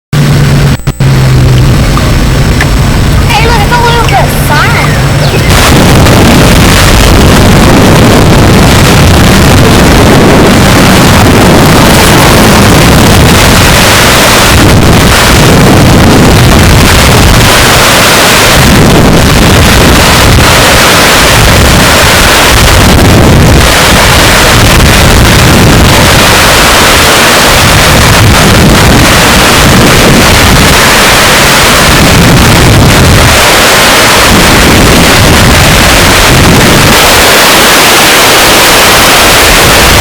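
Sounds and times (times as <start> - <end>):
wind buffeting microphone: 0.2 - 40.0.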